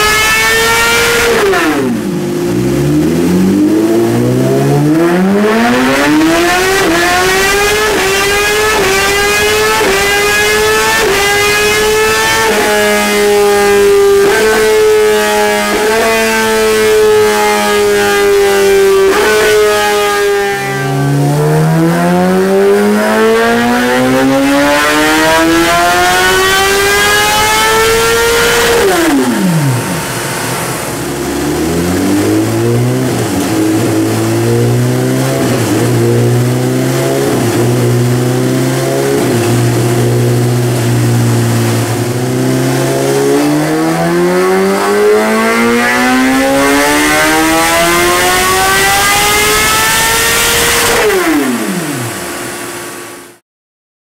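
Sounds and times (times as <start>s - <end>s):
motorcycle engine revving: 0.0s - 53.4s.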